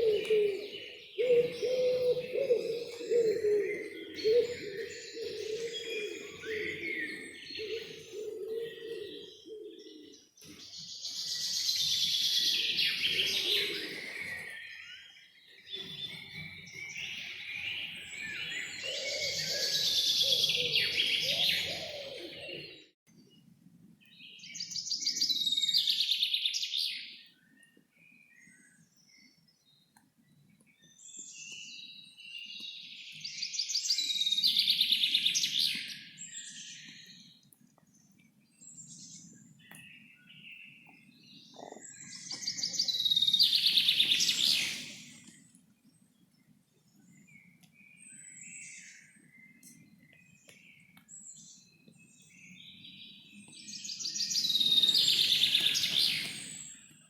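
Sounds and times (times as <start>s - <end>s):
other birds chirping: 0.0s - 22.9s, 27.0s - 57.0s
songbird singing: 0.0s - 57.0s.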